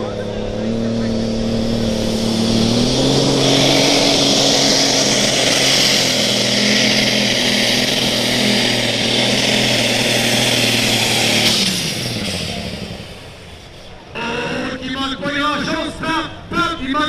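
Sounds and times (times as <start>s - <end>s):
tractor engine running at high revs: 0.0s - 15.1s.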